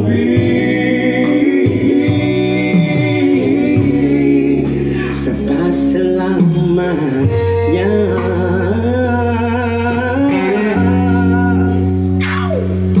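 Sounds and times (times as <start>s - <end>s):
band playing pop song: 0.0s - 13.0s
electric bass low notes: 0.0s - 13.0s.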